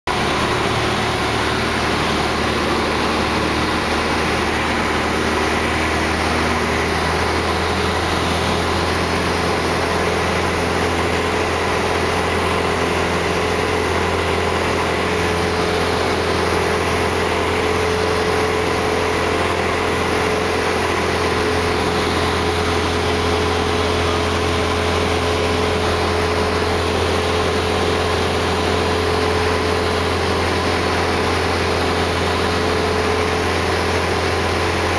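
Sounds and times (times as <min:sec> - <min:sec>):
light aircraft engine drone: 0:00.1 - 0:34.9.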